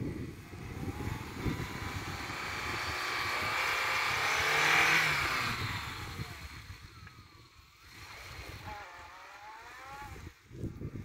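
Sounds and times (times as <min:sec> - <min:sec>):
car engine labouring in snow: 0:00.0 - 0:11.0
wind rumble on microphone: 0:00.0 - 0:11.0.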